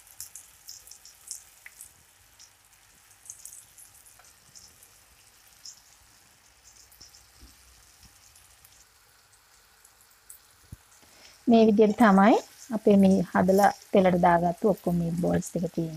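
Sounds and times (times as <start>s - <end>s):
meatballs sizzling in oil: 0.0s - 15.9s
oil crackling and popping: 0.0s - 15.9s.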